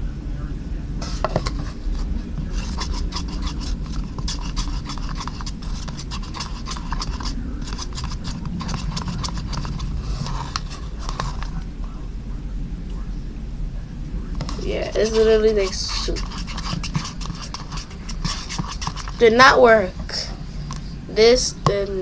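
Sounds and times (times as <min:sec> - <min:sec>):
steady low hum: 0:00.0 - 0:22.0
plastic spoon stirring slime: 0:01.0 - 0:11.7, 0:14.4 - 0:22.0.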